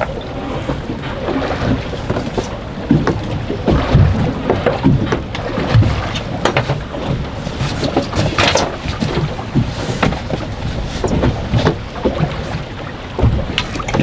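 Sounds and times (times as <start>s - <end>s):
wind buffeting microphone: 0.0s - 14.0s
low thumps and knocks: 1.4s - 14.0s.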